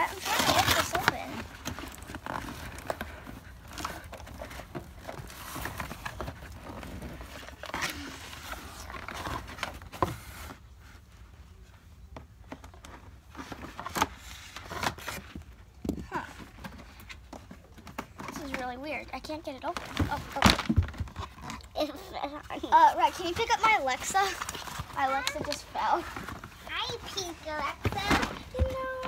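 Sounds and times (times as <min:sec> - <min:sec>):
cardboard rustling and scraping: 0:00.0 - 0:29.0.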